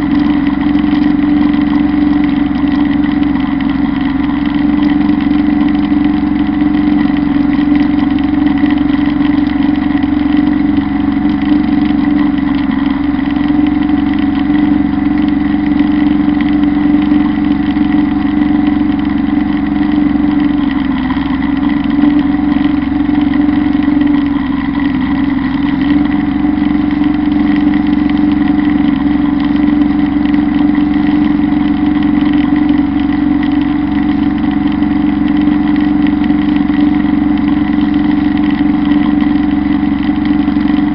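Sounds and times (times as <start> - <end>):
rotary mower cutting grass: 0.0 - 40.9
tractor diesel engine droning: 0.0 - 40.9.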